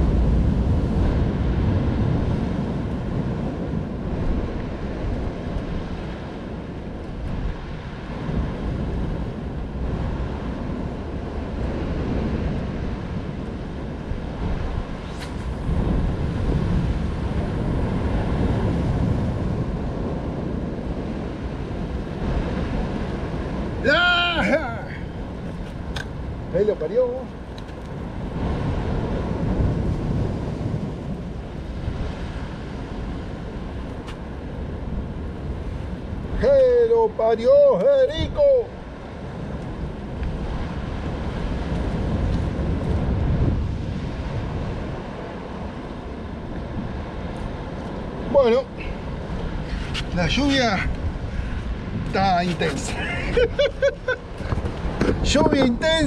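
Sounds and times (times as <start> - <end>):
surf washing against rocks: 0.0 - 56.0
wind rumbling on microphone: 0.0 - 56.0.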